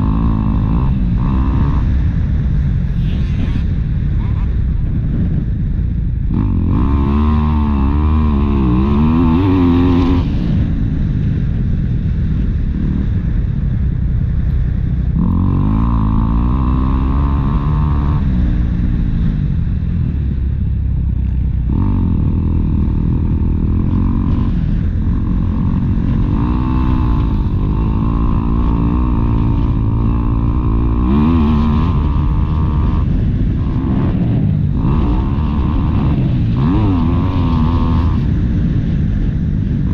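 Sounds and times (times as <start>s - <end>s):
motocross bike engine revving: 0.0s - 5.3s, 6.2s - 13.7s, 15.0s - 20.4s, 21.2s - 39.9s
steady low rumble: 0.0s - 39.9s.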